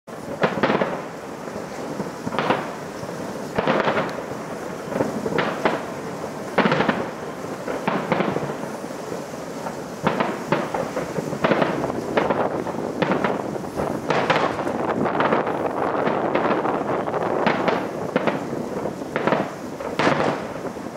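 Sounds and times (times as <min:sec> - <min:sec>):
fireworks shells booming: 0:00.1 - 0:20.9
steady background noise: 0:00.1 - 0:20.9.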